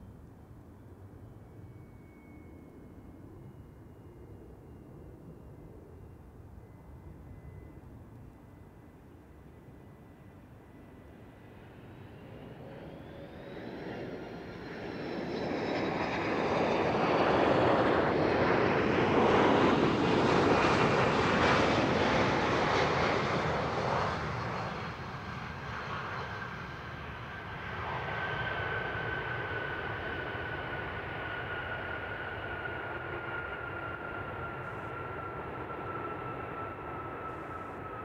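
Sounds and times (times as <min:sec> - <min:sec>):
jet airliner engine noise: 0:00.0 - 0:38.0.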